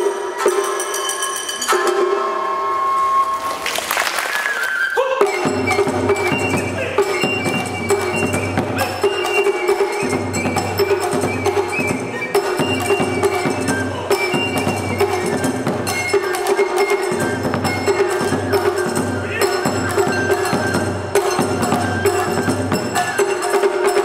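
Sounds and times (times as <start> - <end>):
traditional ensemble music: 0.0 - 24.0
sharp clicking percussion: 3.5 - 24.0.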